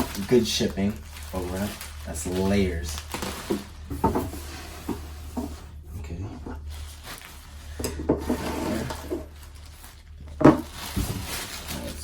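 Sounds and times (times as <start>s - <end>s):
cardboard rubbing and scraping: 0.0s - 5.8s, 6.6s - 12.0s.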